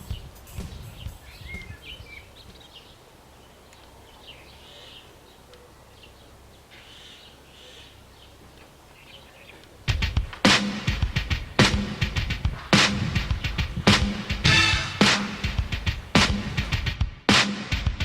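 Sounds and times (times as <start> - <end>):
bird chirps: 0.0 - 16.8.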